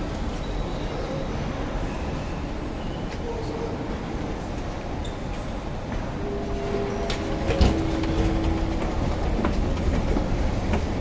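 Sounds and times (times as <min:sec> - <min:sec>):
low machinery and rail rumble: 0:00.0 - 0:11.0.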